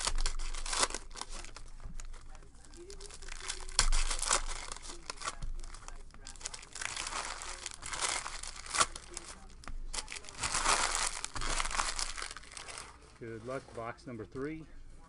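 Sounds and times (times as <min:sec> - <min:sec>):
foil wrapper tearing and crinkling: 0:00.0 - 0:13.2.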